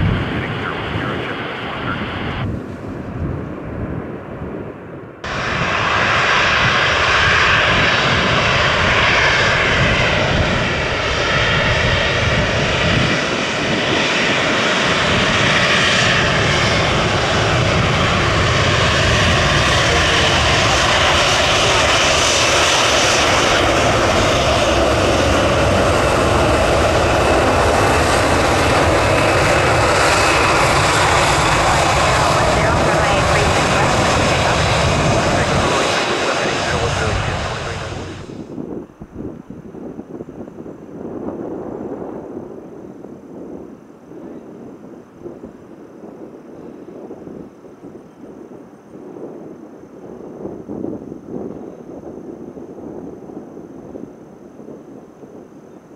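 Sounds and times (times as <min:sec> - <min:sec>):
jet engines running: 0:00.0 - 0:55.6.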